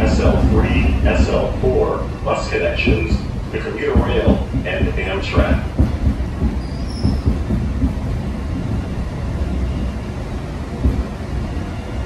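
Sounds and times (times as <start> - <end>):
subway car rumbling in tunnel: 0.0 - 12.0.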